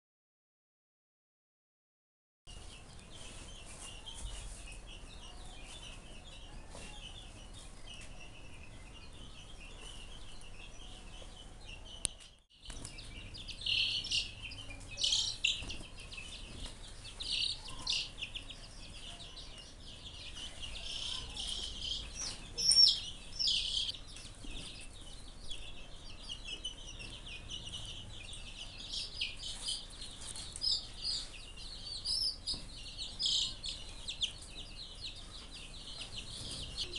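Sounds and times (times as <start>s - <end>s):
chicks peeping: 2.5s - 36.9s.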